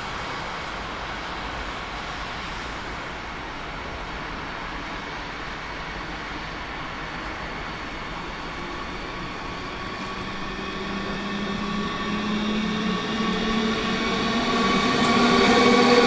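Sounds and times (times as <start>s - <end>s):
electric train approaching: 0.0s - 16.0s.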